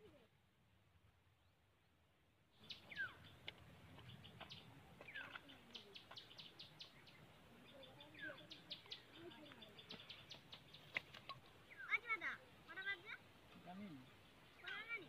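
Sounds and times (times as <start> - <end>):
small birds chirping: 2.5 - 15.0.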